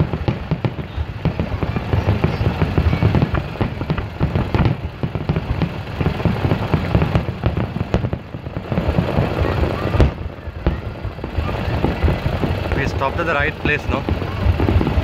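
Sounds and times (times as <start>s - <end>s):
fireworks bangs and crackles: 0.0s - 15.0s
low rumble of booms: 0.0s - 15.0s.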